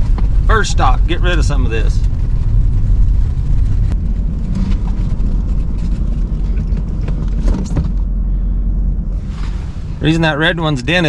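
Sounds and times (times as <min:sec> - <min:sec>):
truck engine and tyres rumbling: 0:00.0 - 0:11.0.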